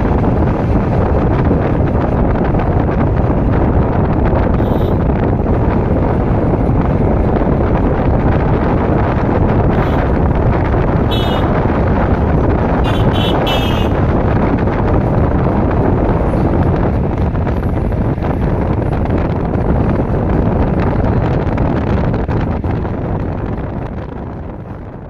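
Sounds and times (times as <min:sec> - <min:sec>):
road and engine noise: 0:00.0 - 0:25.0
wind buffeting microphone: 0:00.0 - 0:25.0.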